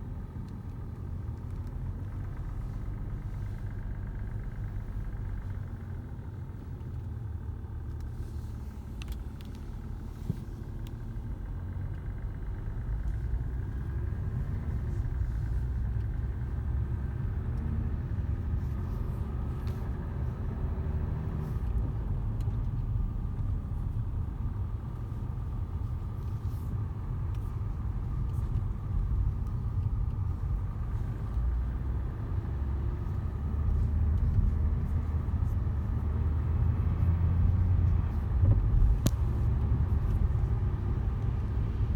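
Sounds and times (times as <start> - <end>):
car engine rumble from inside: 0.0 - 41.9.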